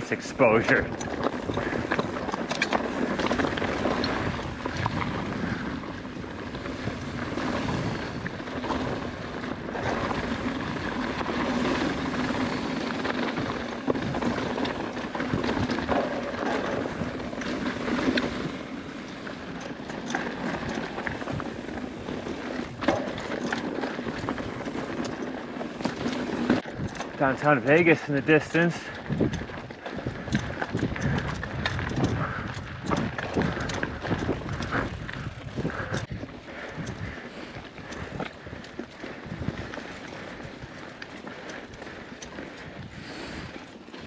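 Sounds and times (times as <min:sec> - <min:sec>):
bike rattling and knocking: 0:00.0 - 0:44.0
tyres crunching on loose rock: 0:00.0 - 0:44.0.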